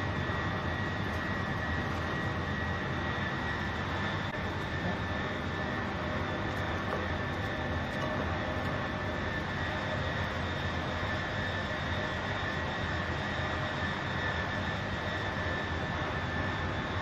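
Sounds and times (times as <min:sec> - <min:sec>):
faint whining tones: 0:00.0 - 0:17.0
ventilation fan whirring: 0:00.0 - 0:17.0.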